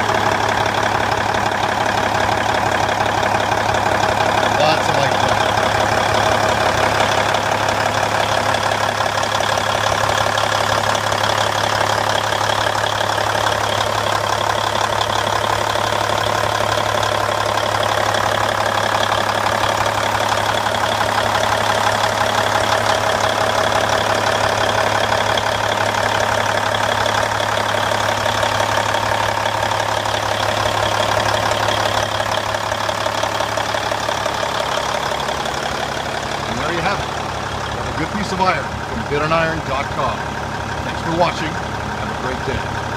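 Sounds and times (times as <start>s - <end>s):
truck diesel engine idling: 0.0s - 42.9s.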